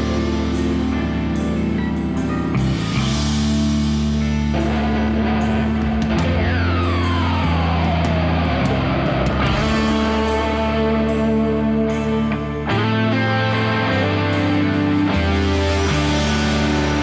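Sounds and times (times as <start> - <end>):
falling guitar glide: 0.0 - 17.0
rock music with electric guitar: 0.0 - 17.0.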